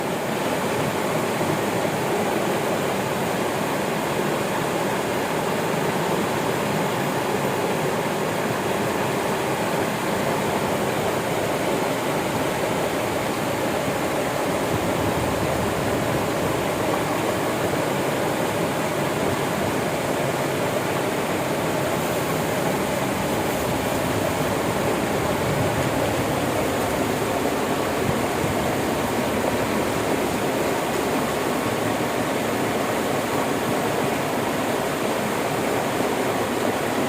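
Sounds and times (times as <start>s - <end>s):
river flowing: 0.0s - 37.0s.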